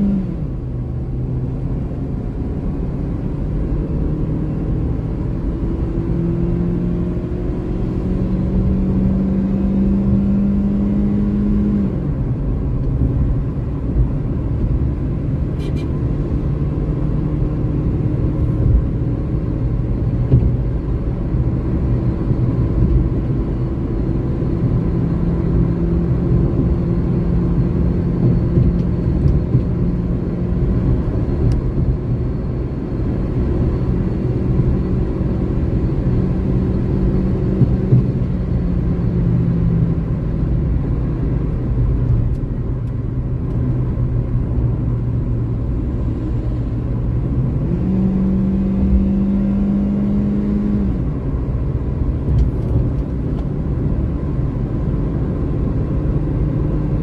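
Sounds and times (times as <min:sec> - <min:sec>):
car engine accelerating: 0:00.0 - 0:57.0
road and tyre rumble: 0:00.0 - 0:57.0.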